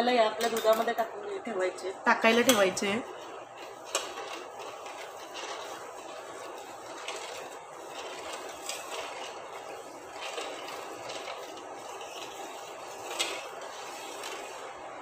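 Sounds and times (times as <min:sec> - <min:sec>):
spoon scraping a pan: 0:02.3 - 0:14.8.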